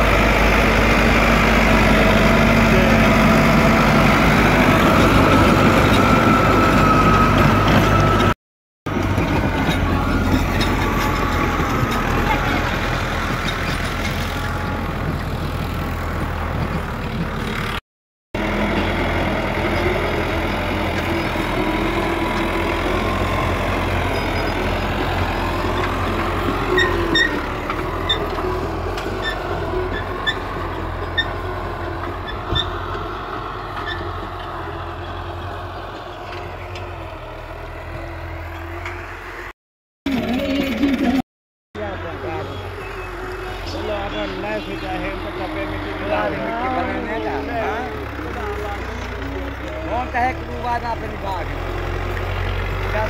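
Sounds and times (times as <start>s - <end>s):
engine humming: 0.0s - 17.8s, 18.4s - 41.2s, 41.8s - 53.0s.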